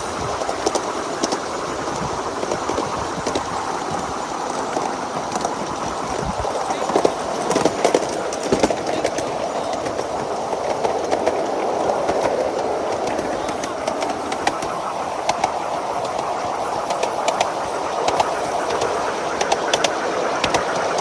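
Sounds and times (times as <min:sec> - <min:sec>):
train wheels rolling rumble: 0:00.0 - 0:21.0
wheels clicking over rail joints: 0:00.0 - 0:21.0.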